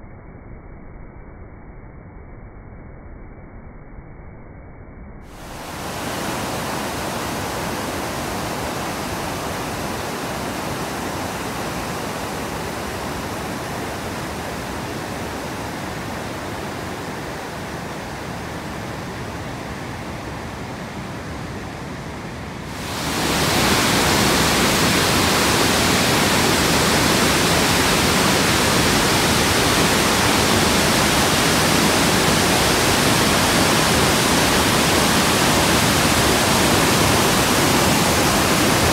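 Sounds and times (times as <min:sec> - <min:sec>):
waterfall rushing: 0:05.3 - 0:20.9, 0:22.6 - 0:38.9.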